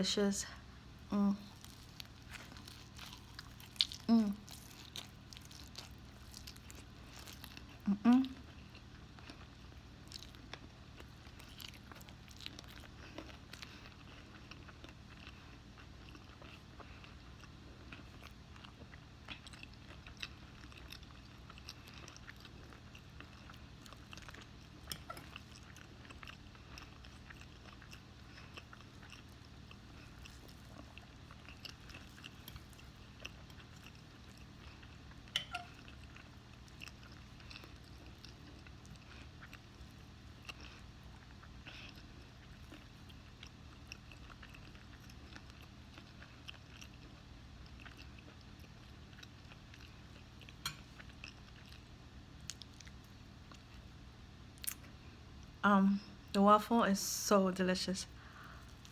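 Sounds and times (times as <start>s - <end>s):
person chewing food: 1.4s - 55.5s, 58.2s - 58.9s.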